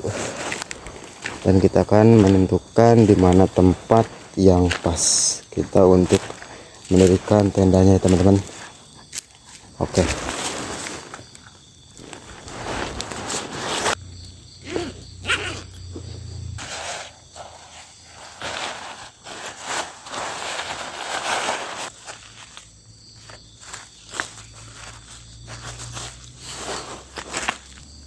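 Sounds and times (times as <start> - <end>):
footsteps through undergrowth: 0.0 - 14.0, 18.4 - 28.0
leaves and twigs crunching: 0.0 - 15.8, 16.6 - 28.0.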